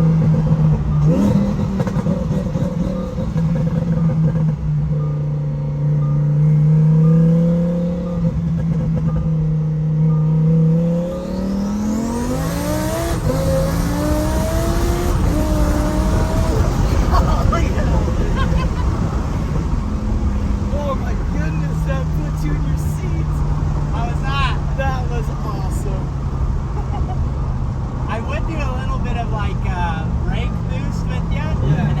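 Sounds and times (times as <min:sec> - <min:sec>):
sports car engine accelerating hard: 0:00.0 - 0:32.0.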